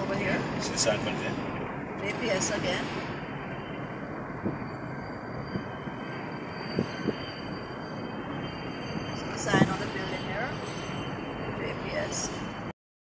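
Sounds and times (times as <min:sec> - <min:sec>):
van tyre and engine rumble: 0:00.0 - 0:12.7.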